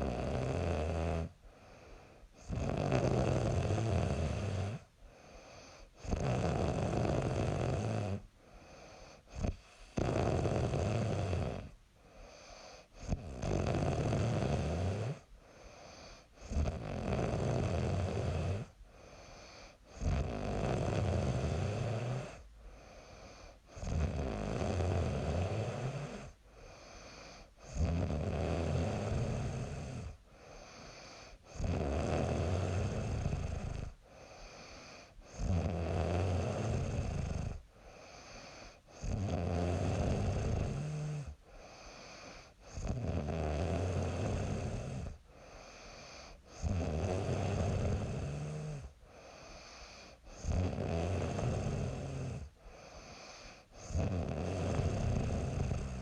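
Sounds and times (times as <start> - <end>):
quiet breathing: 0.0 - 56.0
woman snoring: 0.0 - 56.0.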